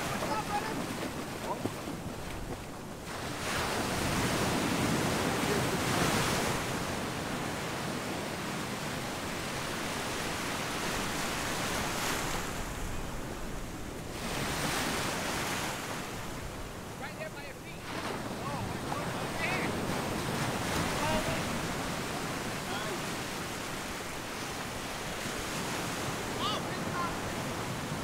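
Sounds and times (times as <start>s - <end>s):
waves breaking on beach: 0.0s - 28.0s.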